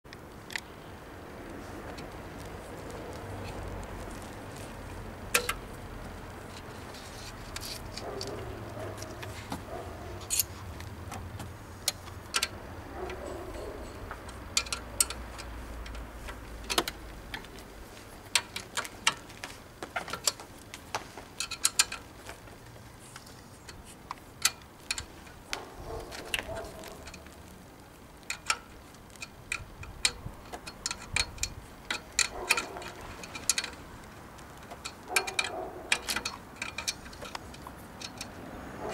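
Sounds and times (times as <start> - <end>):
metallic clicks of wrenches: 1.8 - 27.6, 28.2 - 38.9.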